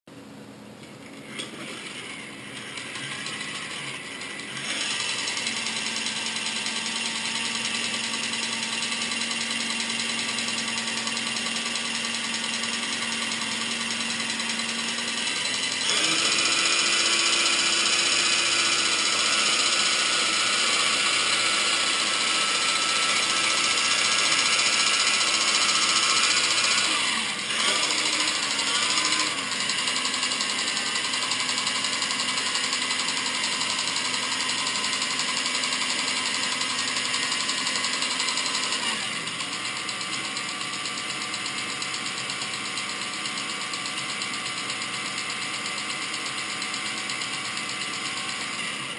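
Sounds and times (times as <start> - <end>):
rattling toy helicopter motor: 1.2 - 48.9.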